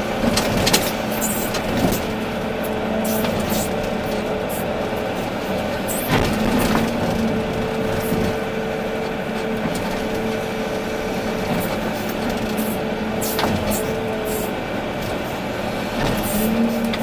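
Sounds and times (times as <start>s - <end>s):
excavator engine and hydraulics humming: 0.0s - 17.0s.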